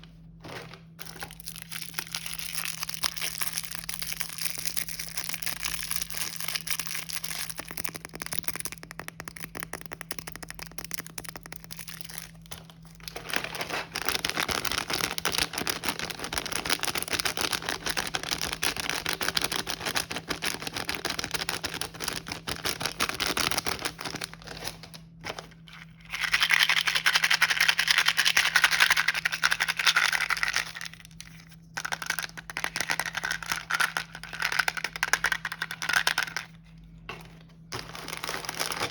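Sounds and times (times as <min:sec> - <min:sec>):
plastic wrappers crinkling: 0:00.1 - 0:38.9.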